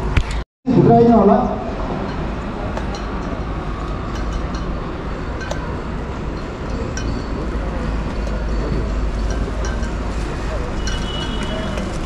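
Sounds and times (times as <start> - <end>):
motorcycles running: 1.7 - 12.0.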